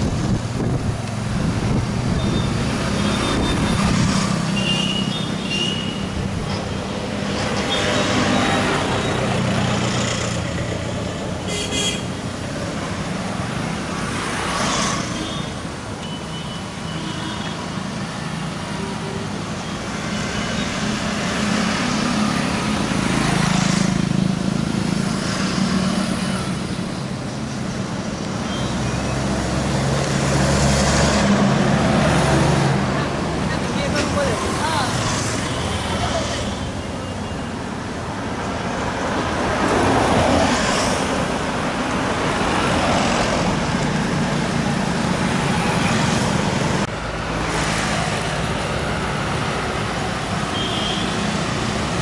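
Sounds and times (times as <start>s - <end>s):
steady traffic engine hum: 0.0s - 52.0s
vehicles passing by: 0.0s - 52.0s.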